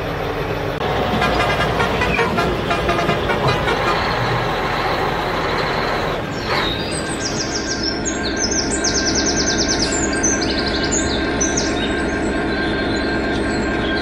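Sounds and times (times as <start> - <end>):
vehicle engine running: 0.0 - 14.0
birds chirping: 1.0 - 14.0.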